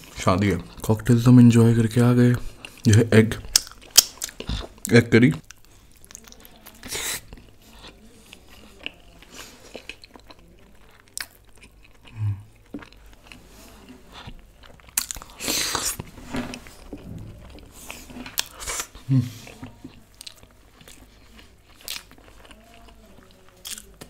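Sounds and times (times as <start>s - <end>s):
wet chewing with clicks: 2.3s - 17.6s, 18.2s - 24.0s.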